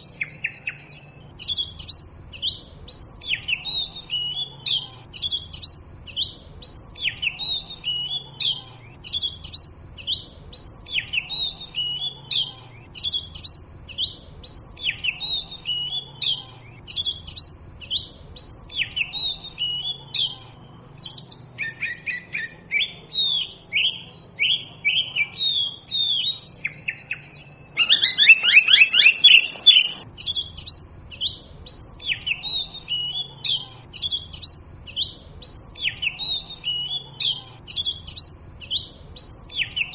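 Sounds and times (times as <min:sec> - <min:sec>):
bird singing whistled phrases: 0:00.0 - 0:20.4, 0:21.0 - 0:39.9.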